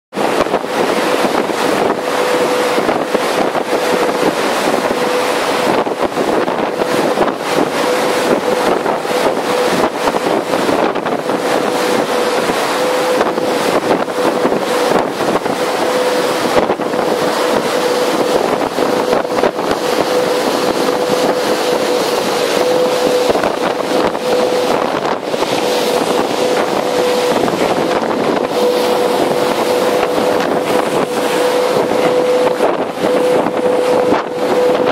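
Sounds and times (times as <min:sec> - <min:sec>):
boat engine hum: 0:00.1 - 0:34.9
rushing water and spray: 0:00.1 - 0:34.9
wind buffeting microphone: 0:00.1 - 0:34.9.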